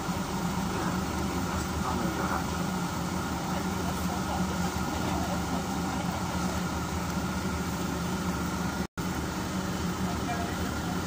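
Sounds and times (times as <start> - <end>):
bus engine drone and road noise: 0.0 - 11.0.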